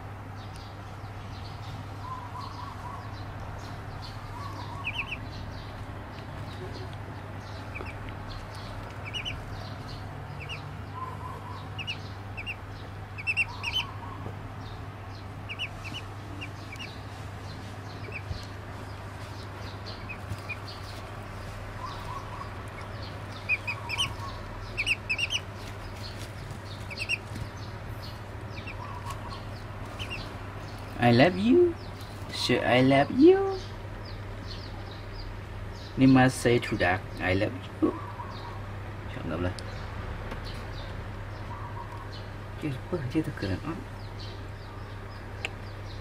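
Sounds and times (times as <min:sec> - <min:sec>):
steady low hum: 0:00.0 - 0:46.0
duckling peeping: 0:01.3 - 0:36.2, 0:36.9 - 0:38.7, 0:43.6 - 0:46.0.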